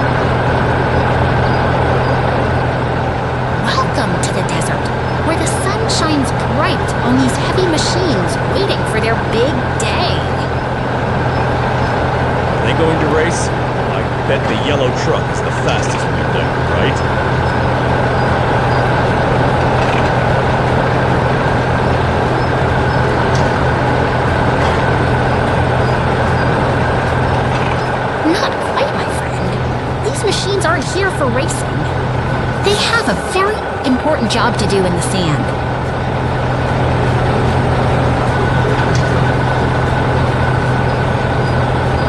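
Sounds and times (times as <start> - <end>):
heavy vehicle engines running: 0.0 - 42.0.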